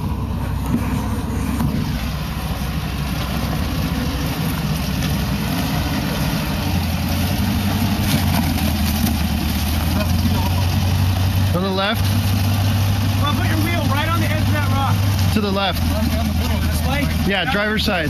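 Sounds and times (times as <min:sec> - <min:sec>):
truck engine running at low revs: 0:00.0 - 0:18.0.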